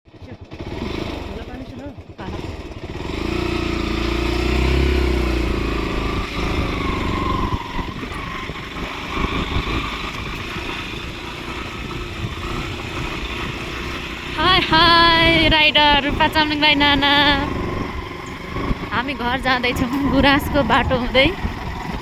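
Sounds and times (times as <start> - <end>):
motorcycle engine running: 0.0 - 22.0
uneven rattling: 1.3 - 22.0.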